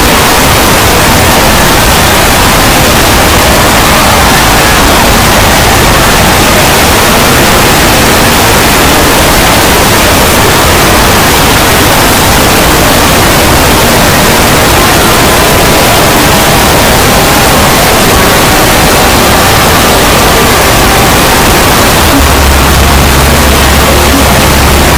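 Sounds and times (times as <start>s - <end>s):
distorted static noise: 0.0s - 24.9s.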